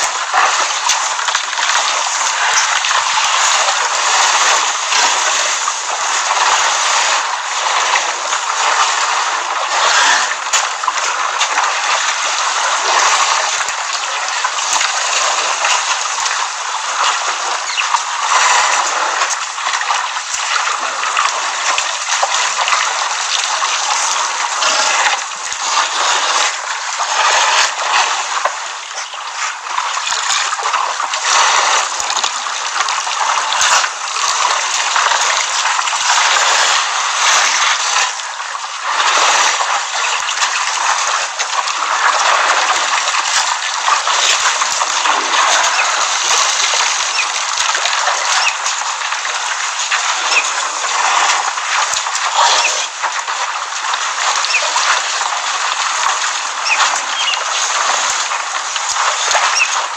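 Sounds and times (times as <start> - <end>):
elephants splashing water: 0.0 - 59.9.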